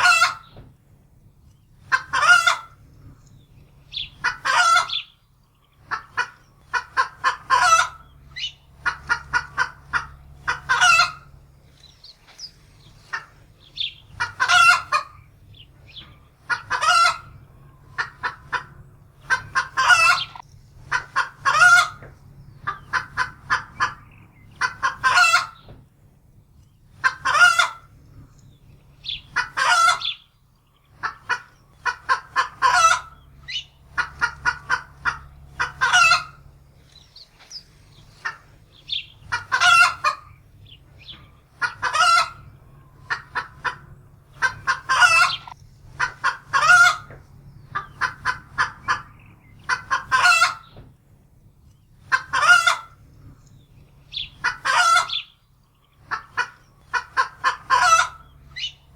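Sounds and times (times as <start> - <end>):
hen cackling and squawking: 0.0 - 0.6, 1.7 - 25.8, 26.8 - 50.8, 51.9 - 58.9.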